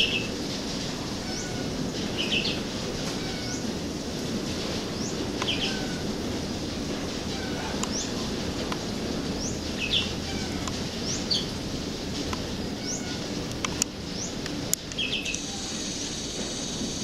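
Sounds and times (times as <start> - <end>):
birds chirping: 0.0 - 17.0
low background hum: 0.0 - 17.0.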